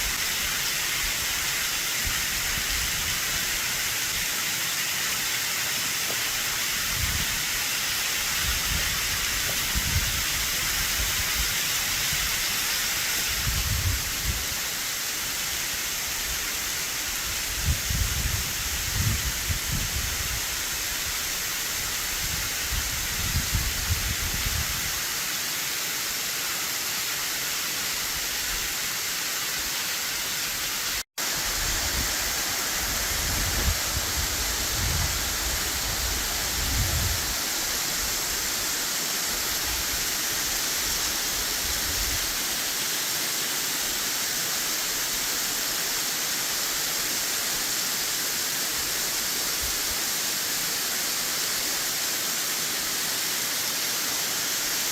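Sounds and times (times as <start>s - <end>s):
waterfall rushing: 0.0s - 17.6s, 18.2s - 54.9s.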